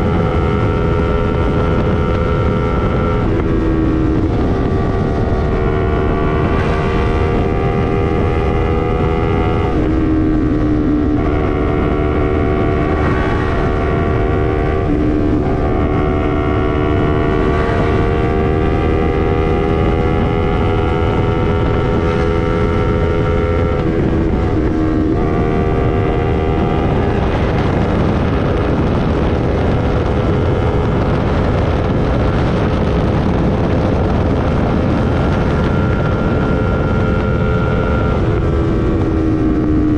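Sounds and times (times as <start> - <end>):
motorcycle engine at speed: 0.0 - 39.9
wind noise on microphone: 0.0 - 39.9.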